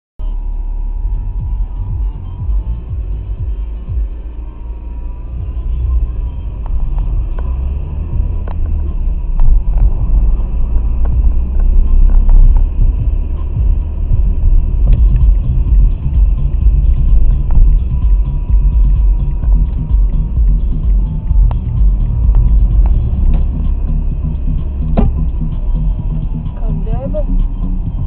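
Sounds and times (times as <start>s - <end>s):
car engine rumble: 0.2s - 28.0s.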